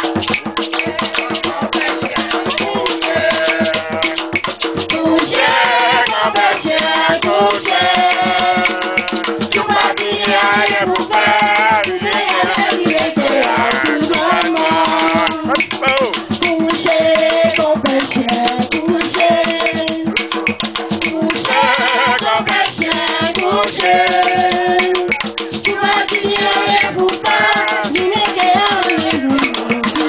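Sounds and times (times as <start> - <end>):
shaker rhythm: 0.0 - 30.0
voices singing: 0.0 - 30.0.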